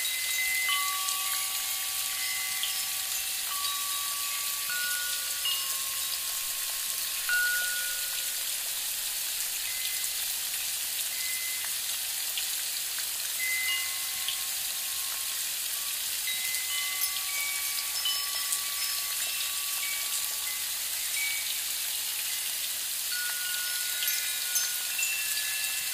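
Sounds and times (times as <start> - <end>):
chimes ringing: 0.0 - 10.3, 11.1 - 11.8, 13.4 - 25.9
rain-like hiss: 0.0 - 25.9.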